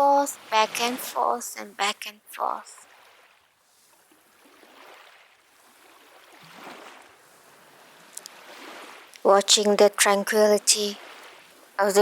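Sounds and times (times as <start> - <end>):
ocean waves washing in: 0.0 - 12.0.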